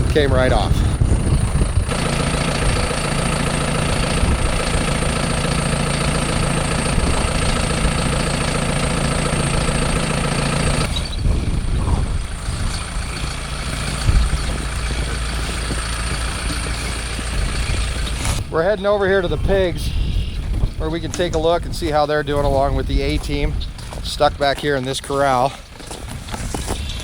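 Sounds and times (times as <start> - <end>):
low rumble: 0.0 - 24.6
vehicle engine humming: 0.0 - 27.0.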